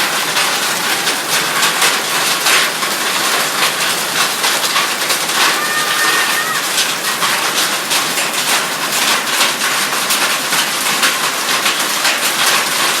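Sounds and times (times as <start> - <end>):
hailstones clattering on hard surfaces: 0.0 - 13.0
rushing rain-like noise: 0.0 - 13.0.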